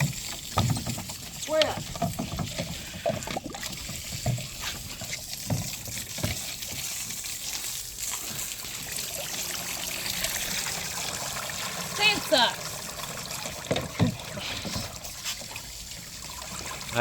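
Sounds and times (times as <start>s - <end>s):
water trickling in a plastic tray: 0.0s - 17.0s.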